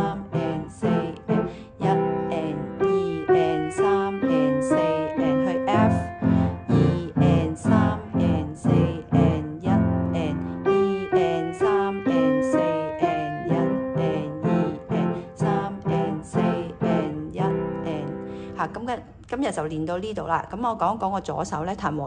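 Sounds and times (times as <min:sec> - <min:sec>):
blues piano: 0:00.0 - 0:18.6.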